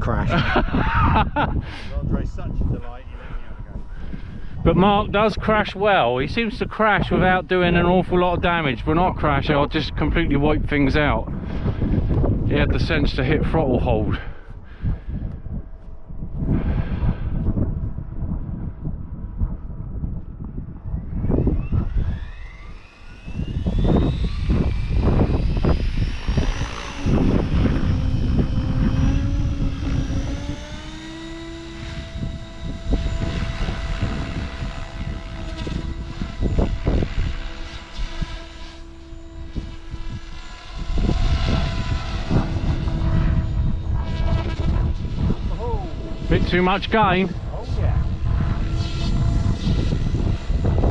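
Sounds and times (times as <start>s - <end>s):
model helicopter motor whine: 0.0s - 50.9s
wind rumble on microphone: 0.0s - 50.9s.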